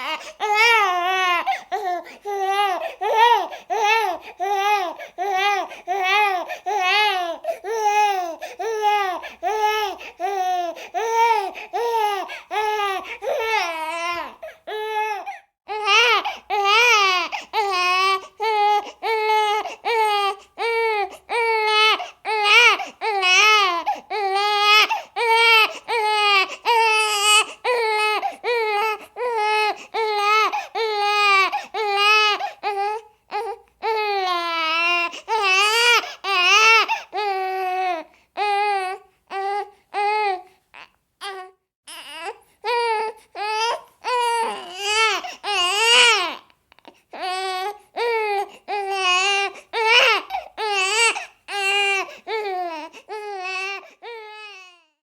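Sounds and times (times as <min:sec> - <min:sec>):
baby crying: 0:00.0 - 0:55.0.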